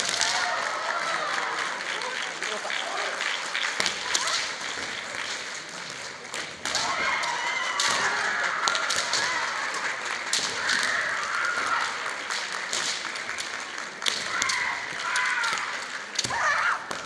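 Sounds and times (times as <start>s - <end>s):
bamboo swords clacking: 0.0s - 0.5s, 3.7s - 17.0s.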